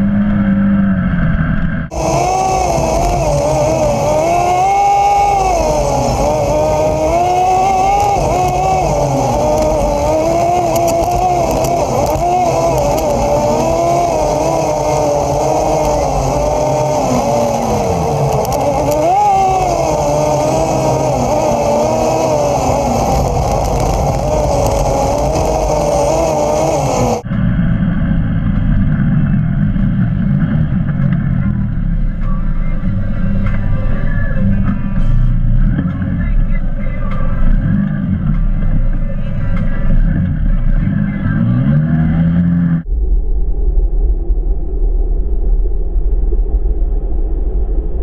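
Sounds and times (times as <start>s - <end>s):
muffled vehicle noise: 0.0s - 48.0s
vehicle engine running: 0.0s - 48.0s.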